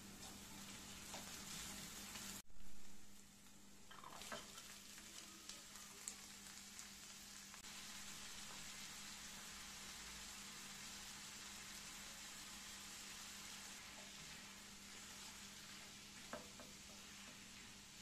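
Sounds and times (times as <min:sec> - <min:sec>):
onions frying in oil: 0:00.0 - 0:18.0.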